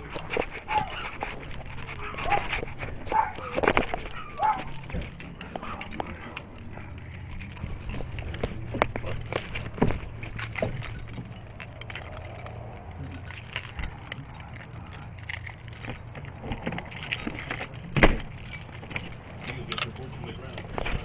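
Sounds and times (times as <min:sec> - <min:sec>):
keys jangling: 0:00.0 - 0:21.0.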